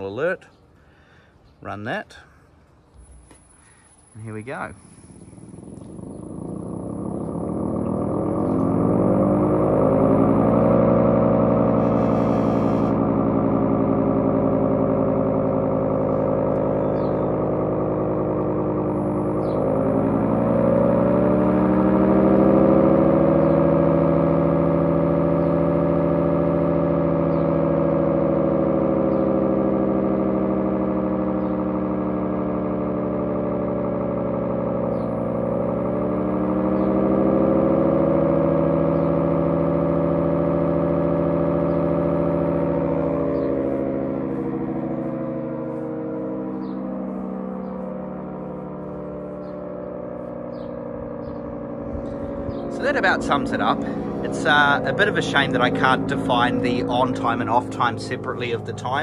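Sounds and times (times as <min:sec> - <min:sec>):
air raid siren wailing: 0:03.0 - 0:59.0.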